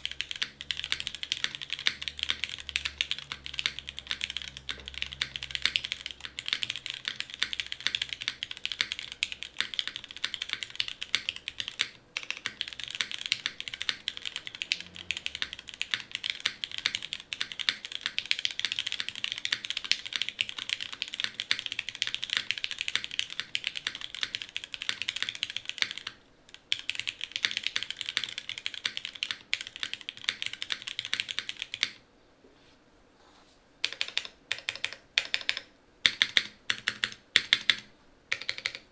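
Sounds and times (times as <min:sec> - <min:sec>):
mechanical keyboard typing: 0:00.0 - 0:32.0, 0:33.8 - 0:38.9.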